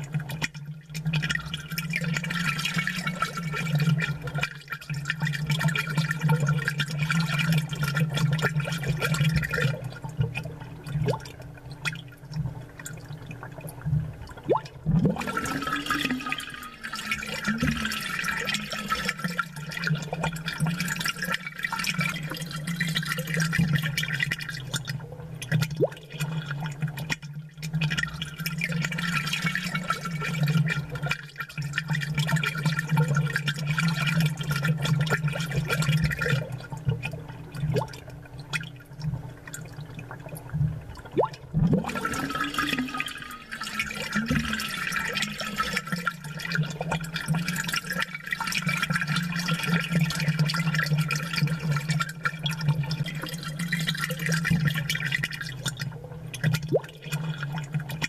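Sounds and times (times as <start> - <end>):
aquarium bubbling: 0.0 - 58.0.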